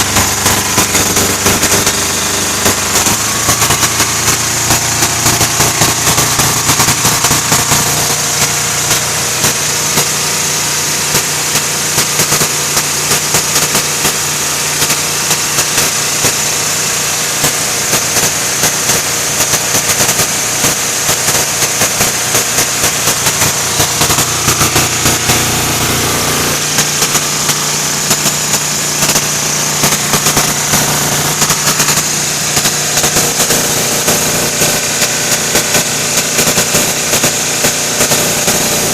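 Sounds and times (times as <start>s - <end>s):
diesel engine exhaust pulses: 0.0s - 37.2s.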